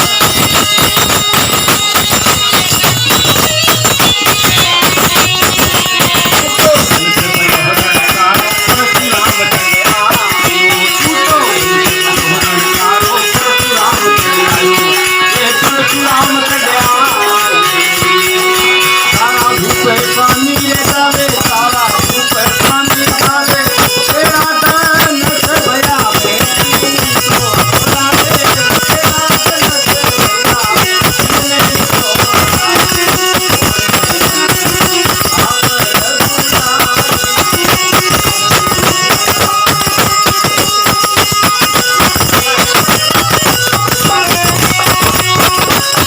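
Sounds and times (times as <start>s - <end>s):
fast percussion rhythm: 0.0s - 46.0s.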